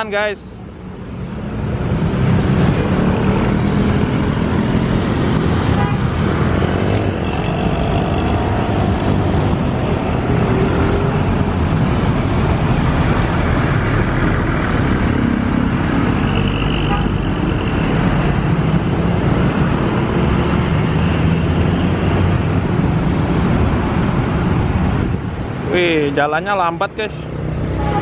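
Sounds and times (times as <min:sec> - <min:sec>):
road traffic engine rumble: 0:00.0 - 0:28.0.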